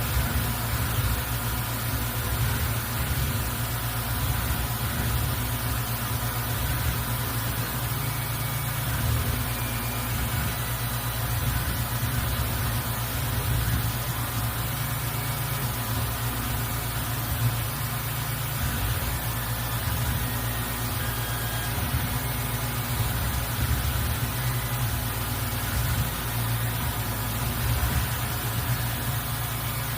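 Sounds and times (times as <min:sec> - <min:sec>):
high machine whines: 0:00.0 - 0:29.9
milling machine hum and hiss: 0:00.0 - 0:29.9.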